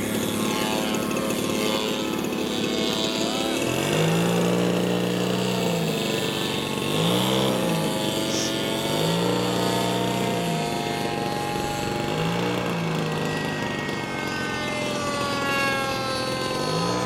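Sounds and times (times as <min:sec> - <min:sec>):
model airplane motor buzzing: 0:00.0 - 0:17.0.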